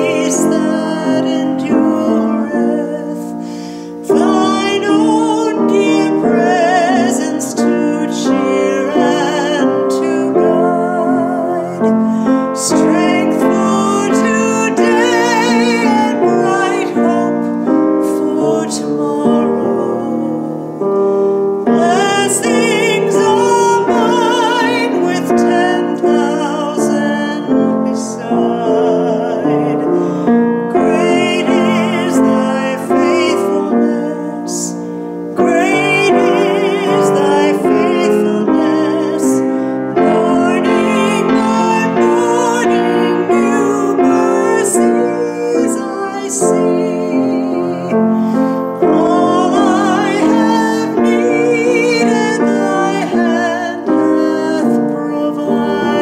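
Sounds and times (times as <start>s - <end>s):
piano playing: 0.0s - 56.0s
woman singing with vibrato: 0.0s - 56.0s.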